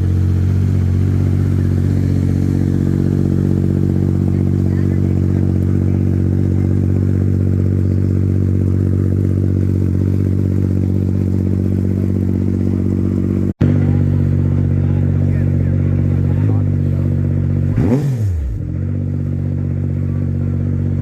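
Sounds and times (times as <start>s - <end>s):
race car engine idling: 0.0s - 21.0s.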